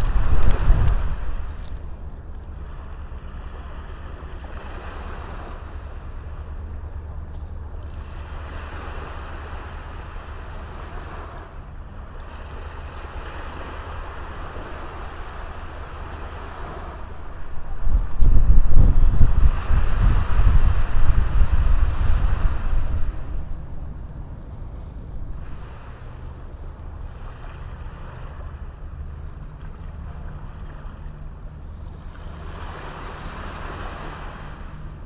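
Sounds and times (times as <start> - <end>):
sea waves breaking on a beach: 0.0 - 35.0
wind rumble on microphone: 0.0 - 35.0.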